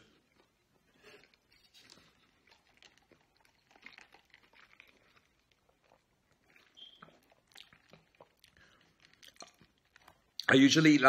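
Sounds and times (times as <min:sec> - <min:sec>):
faint chewing: 0:00.0 - 0:10.5.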